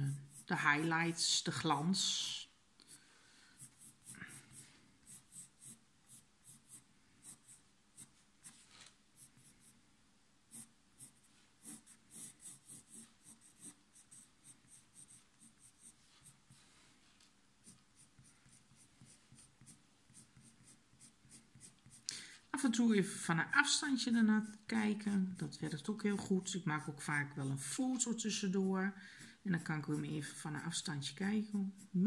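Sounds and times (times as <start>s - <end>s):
pencil scratching on paper: 0.0s - 1.7s, 3.6s - 9.7s, 10.5s - 16.7s, 17.6s - 22.7s, 23.6s - 32.0s.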